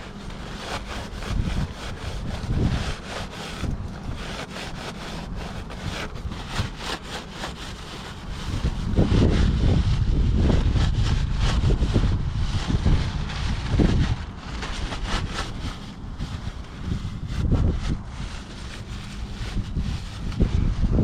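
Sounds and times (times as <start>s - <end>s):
paper towel wiping chain: 0.0s - 21.0s
wind buffeting microphone: 0.0s - 21.0s.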